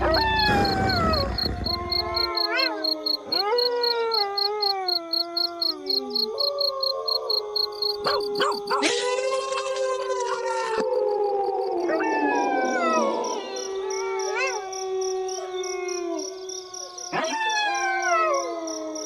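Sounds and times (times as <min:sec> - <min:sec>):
wolves howling in chorus: 0:00.0 - 0:19.0.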